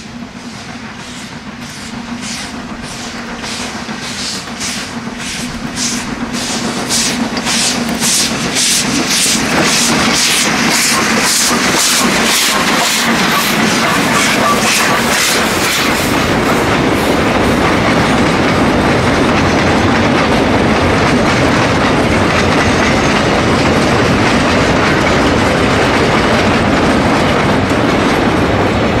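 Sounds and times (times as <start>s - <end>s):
steam locomotive exhaust beats: 0.0s - 29.0s
train wheels clattering over rail joints: 0.0s - 29.0s.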